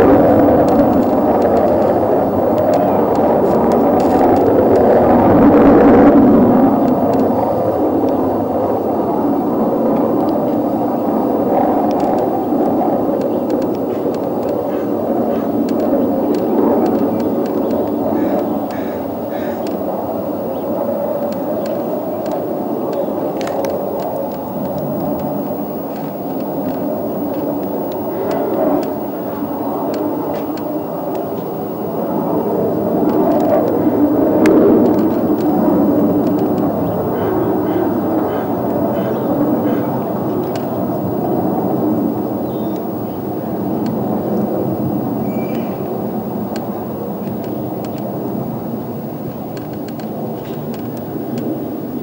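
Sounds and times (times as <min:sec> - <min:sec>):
faint clicks: 0:00.0 - 0:52.0
jet flying overhead: 0:00.0 - 0:52.0.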